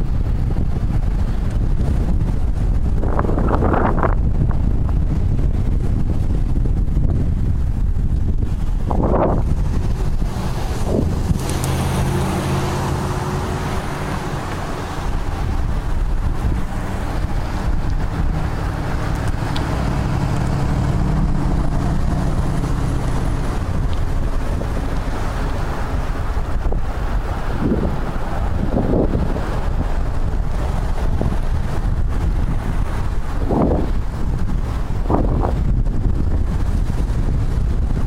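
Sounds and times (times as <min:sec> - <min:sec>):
car engine low hum: 0:00.0 - 0:38.0
road traffic: 0:00.0 - 0:38.0
wind buffeting microphone: 0:00.0 - 0:38.0.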